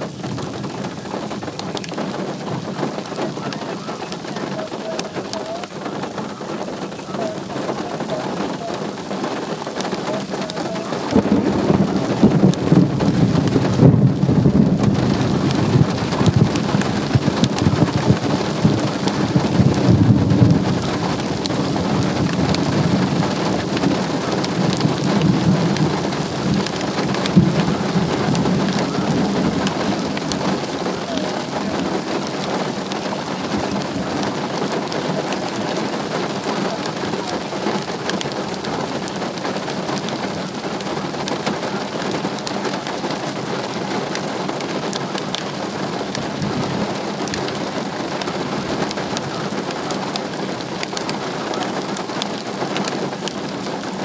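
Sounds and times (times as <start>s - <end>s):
deep rumble of thunder: 0.0s - 54.0s
steady rain: 0.0s - 54.0s.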